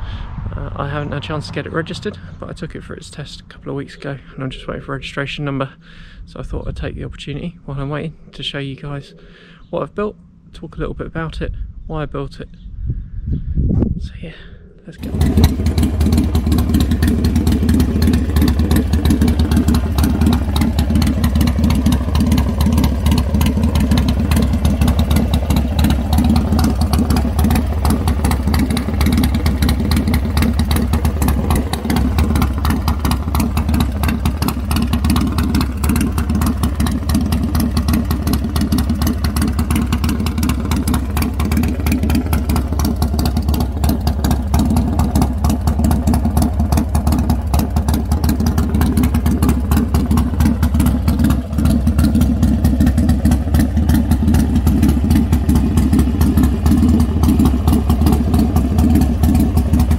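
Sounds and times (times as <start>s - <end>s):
motorcycle engine idling: 0.0s - 6.8s, 15.0s - 59.9s.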